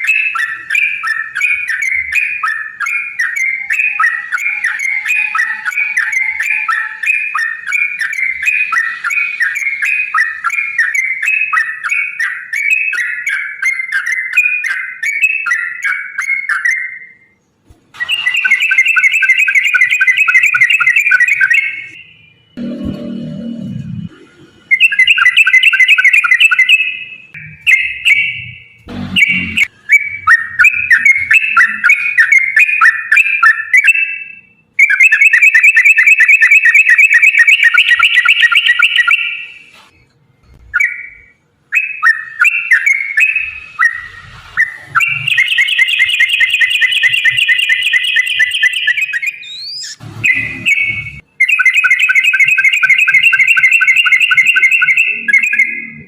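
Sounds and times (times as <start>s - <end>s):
bulbul song: 0.0s - 23.0s, 24.6s - 39.8s, 40.6s - 56.0s.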